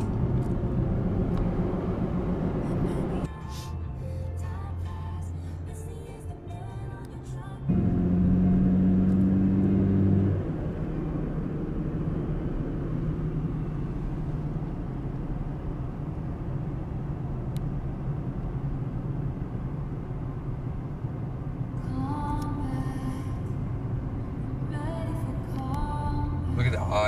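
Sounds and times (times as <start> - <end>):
loud low hum: 0.0 - 3.3, 7.6 - 27.0
car road and engine noise: 0.0 - 27.0.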